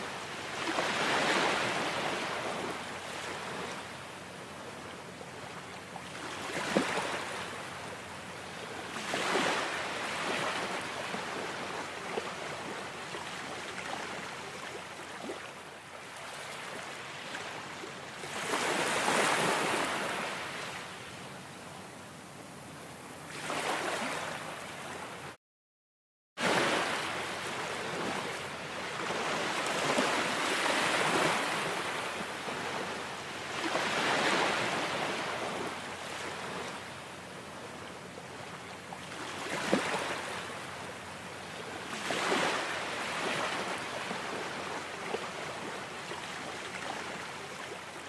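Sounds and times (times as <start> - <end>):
waves breaking on shore: 0.0 - 21.1, 22.7 - 25.4, 26.4 - 48.0.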